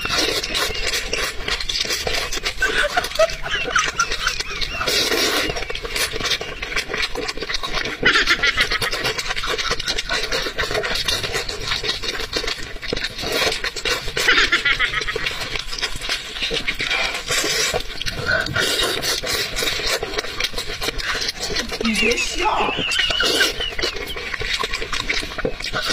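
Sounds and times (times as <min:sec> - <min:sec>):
sticky squelches of food torn: 0:00.0 - 0:25.9
wet chewing and lip-smacking: 0:00.0 - 0:25.9.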